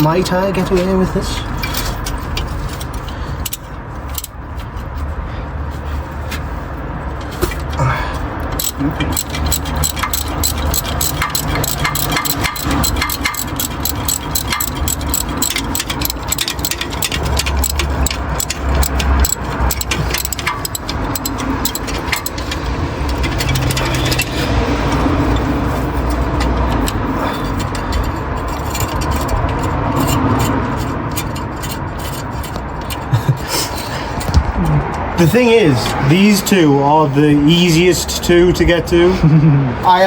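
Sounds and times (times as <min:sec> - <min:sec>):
socket rattling and scraping: 0:00.0 - 0:36.6
ratchet wrench clicking: 0:00.7 - 0:04.7, 0:07.2 - 0:36.5.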